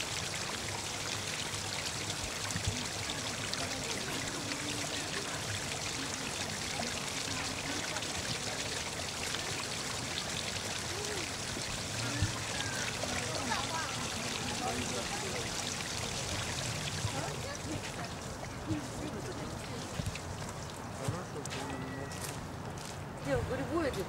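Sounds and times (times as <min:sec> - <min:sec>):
water pouring over rocks: 0:00.0 - 0:22.2.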